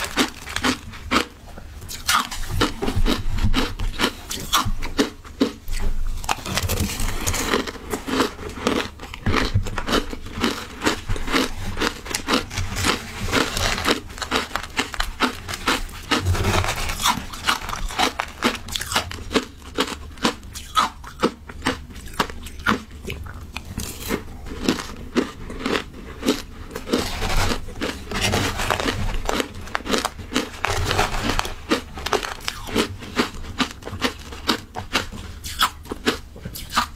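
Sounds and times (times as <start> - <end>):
shaved ice crunching in mouth: 0.0 - 36.9.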